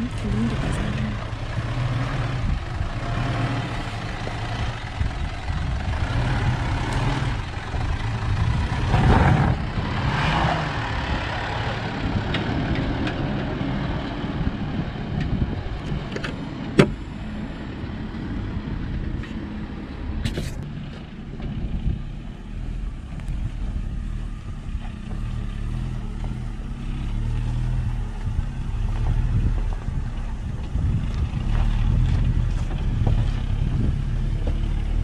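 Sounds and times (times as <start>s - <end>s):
suv engine running at low speed: 0.0s - 35.0s.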